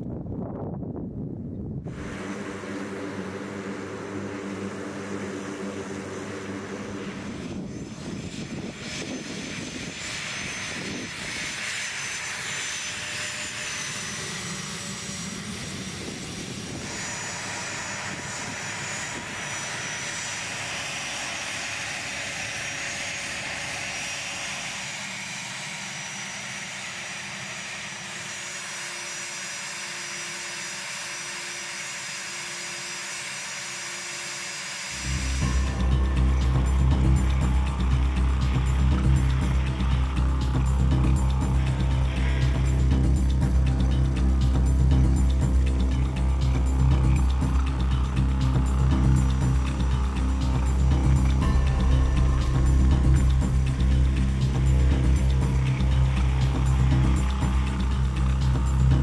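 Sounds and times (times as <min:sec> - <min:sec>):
jet engines humming and whining: 0:00.0 - 0:59.0
propeller engine drone: 0:00.0 - 0:59.0.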